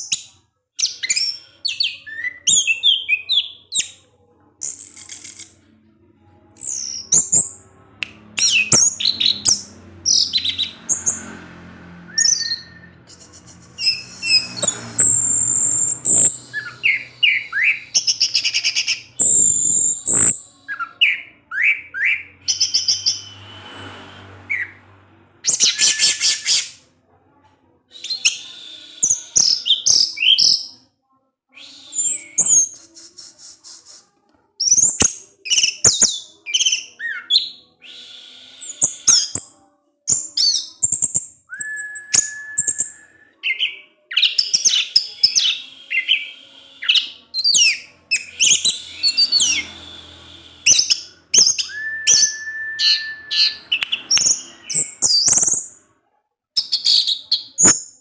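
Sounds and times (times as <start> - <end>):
thrush singing: 4.6 - 26.9, 31.6 - 55.9.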